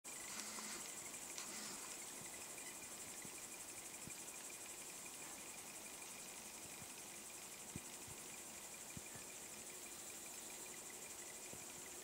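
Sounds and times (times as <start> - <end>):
crickets chirring: 0.1 - 12.0.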